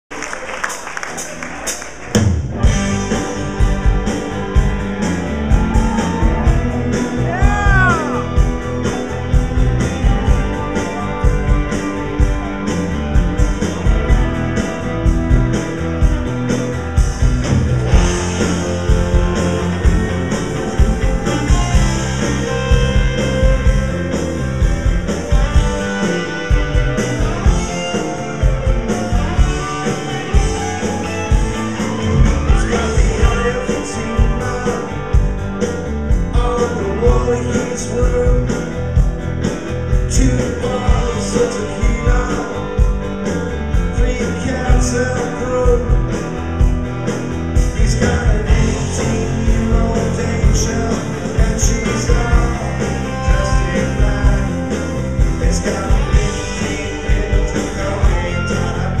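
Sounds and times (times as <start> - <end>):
rock band playing live: 0.1 - 59.0.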